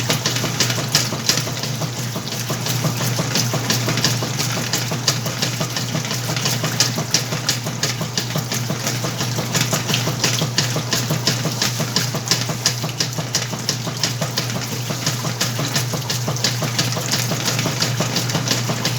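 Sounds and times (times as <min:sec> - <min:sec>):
washing machine motor hum: 0:00.0 - 0:18.9
water swishing and sloshing: 0:00.0 - 0:18.9.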